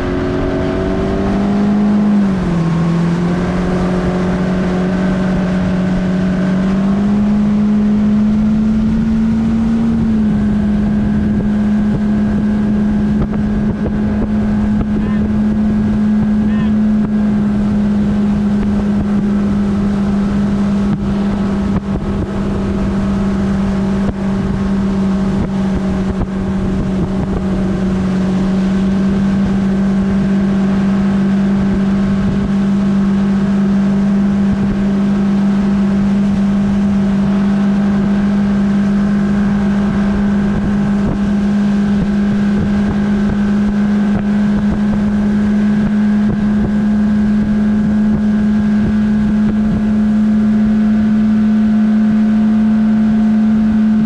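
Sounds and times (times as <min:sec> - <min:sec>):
outboard motor running steadily: 0:00.0 - 0:54.0.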